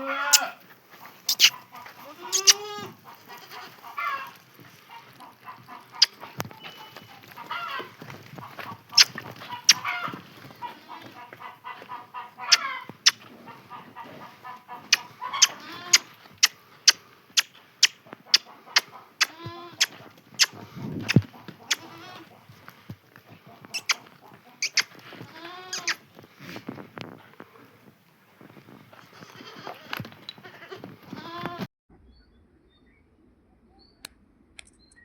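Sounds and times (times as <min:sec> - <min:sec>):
chickens clucking: 0:00.0 - 0:31.1.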